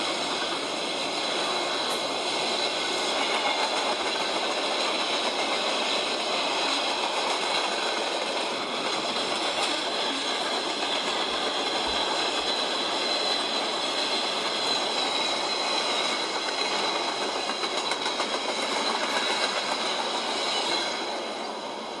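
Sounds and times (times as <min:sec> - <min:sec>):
train wheels rattling on rails: 0:00.0 - 0:22.0.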